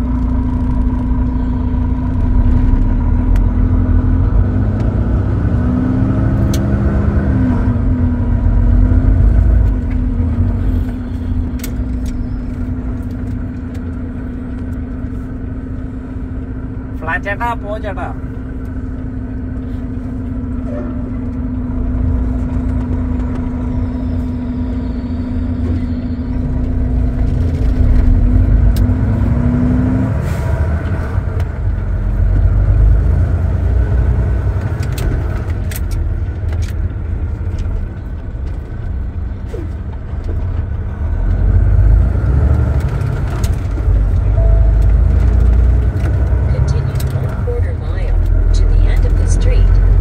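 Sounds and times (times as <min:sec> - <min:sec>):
truck engine rumble: 0:00.0 - 0:50.0.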